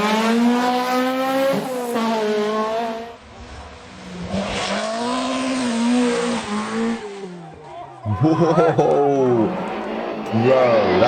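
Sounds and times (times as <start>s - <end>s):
rally car engine revving: 0.0s - 7.6s, 8.6s - 11.0s.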